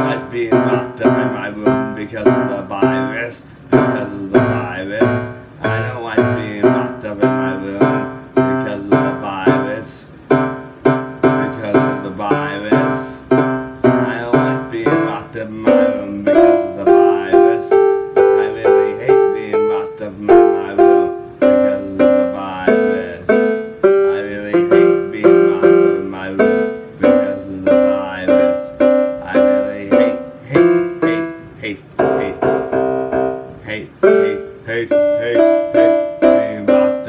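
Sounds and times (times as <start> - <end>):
keyboard chords: 0.0 - 37.0.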